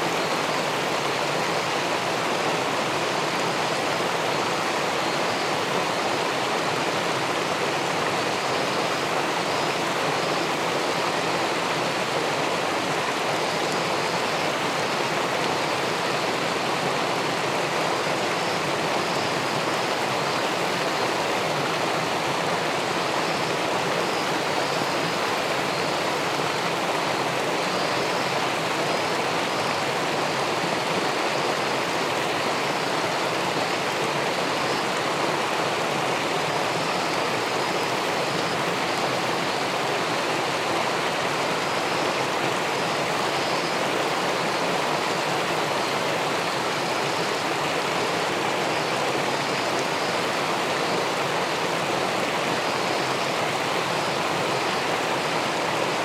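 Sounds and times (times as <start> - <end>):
river water rushing over a weir: 0.0 - 56.0.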